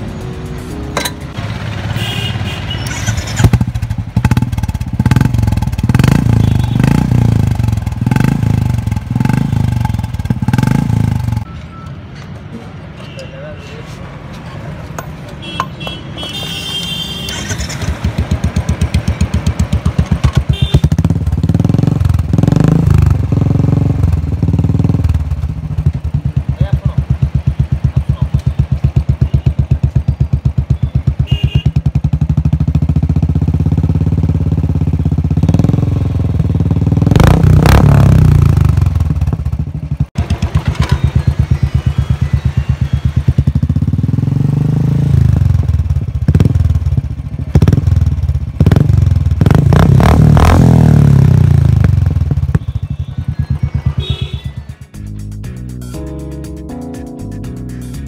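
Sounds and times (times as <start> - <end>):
motorcycle engine idling and revving: 0.0 - 12.6, 14.3 - 56.3.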